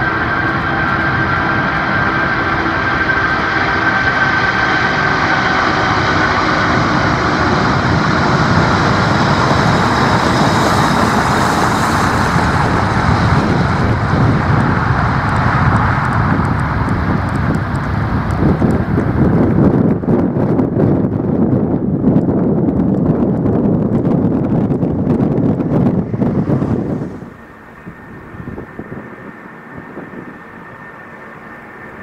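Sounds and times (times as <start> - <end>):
deep engine rumble: 0.0 - 32.0
jet engines roaring: 0.0 - 32.0
jet fan whine: 0.0 - 32.0.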